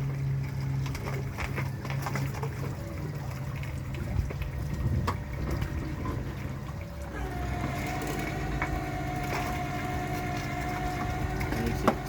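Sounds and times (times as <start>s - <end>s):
vehicle engine humming: 0.0s - 12.0s
water sloshing and trickling: 0.0s - 12.0s.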